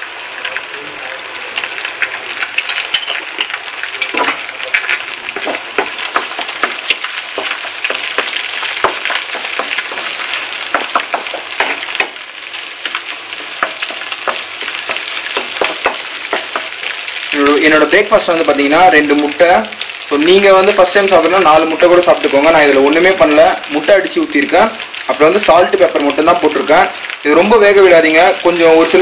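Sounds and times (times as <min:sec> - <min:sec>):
eggs sizzling in frying pan: 0:00.0 - 0:29.0.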